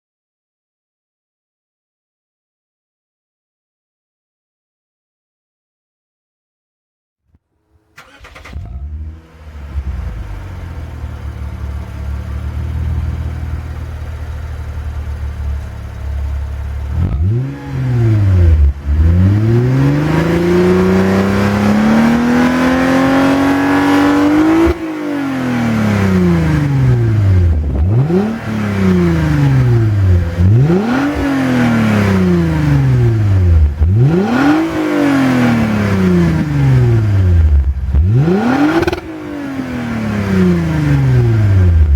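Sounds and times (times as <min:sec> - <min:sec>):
car engine starting and revving: 0:07.9 - 0:41.9.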